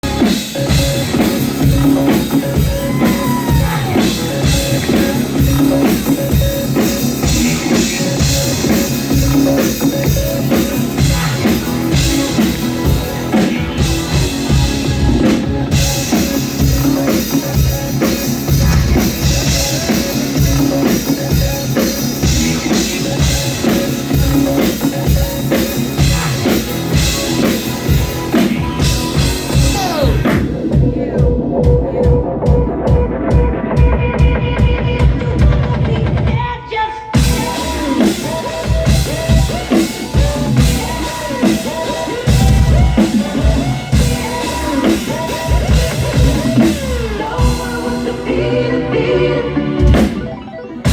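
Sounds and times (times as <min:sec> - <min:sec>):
drum kit beat: 0:00.0 - 0:36.5, 0:37.1 - 0:48.7, 0:49.6 - 0:50.9
rock band playing: 0:00.0 - 0:36.5, 0:37.1 - 0:50.9.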